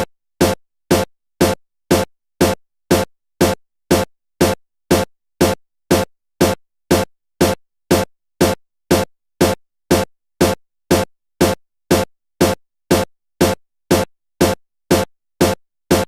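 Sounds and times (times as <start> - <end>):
electronic music with drum-machine beat: 0.0 - 16.0.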